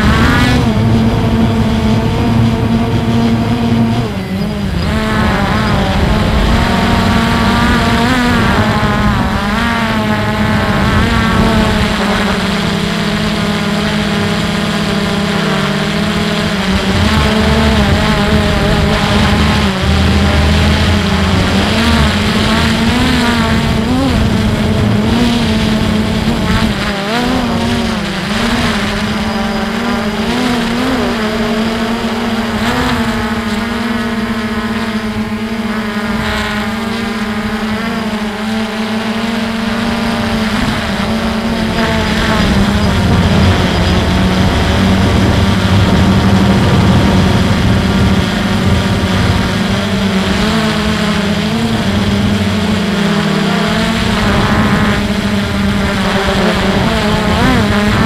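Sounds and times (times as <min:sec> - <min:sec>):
drone propellers buzzing: 0:00.0 - 0:58.0
low wind rumble: 0:00.0 - 0:58.0.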